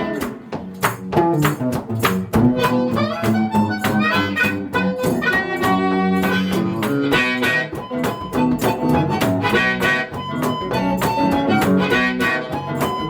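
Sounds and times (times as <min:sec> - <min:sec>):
live blues music with harmonica: 0:00.0 - 0:13.0.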